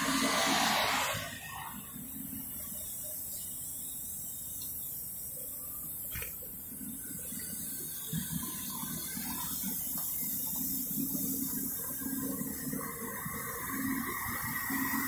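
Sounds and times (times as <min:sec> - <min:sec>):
hiss: 0:00.0 - 0:15.0
street-cleaning truck running: 0:00.0 - 0:15.0.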